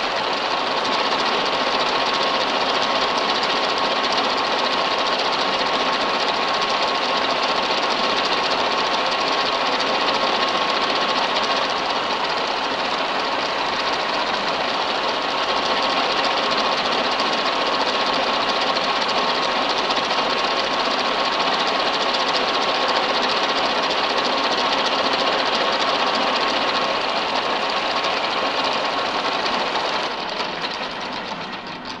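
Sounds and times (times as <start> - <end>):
milling machine cutting metal: 0.0 - 32.0.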